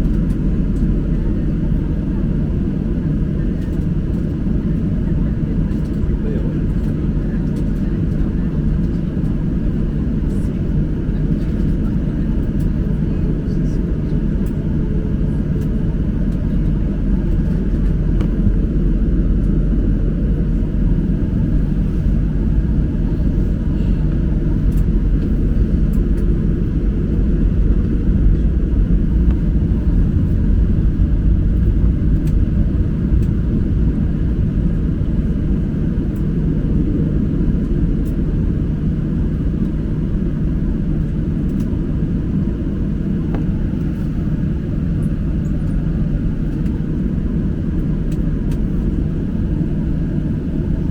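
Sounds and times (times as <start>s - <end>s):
airliner jet engine rumble: 0.0s - 50.9s.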